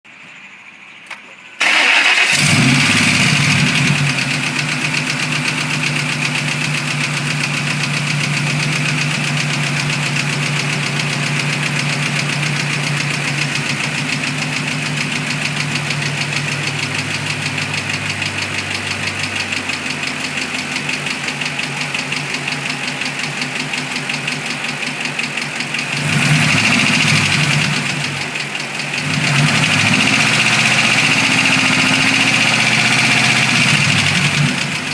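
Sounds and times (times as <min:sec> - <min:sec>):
car engine starting and idling: 0:00.1 - 0:34.9
engine ticking: 0:00.4 - 0:34.9
engine revving: 0:01.6 - 0:34.9.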